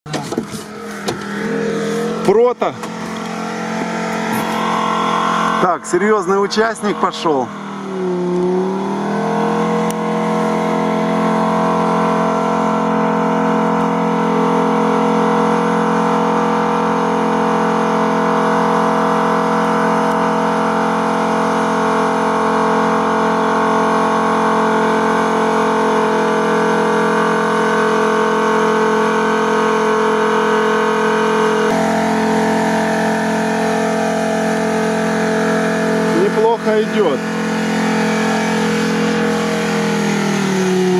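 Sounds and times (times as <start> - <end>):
buggy engine revving: 0.1 - 40.9
buggy pushing through water: 0.1 - 40.9.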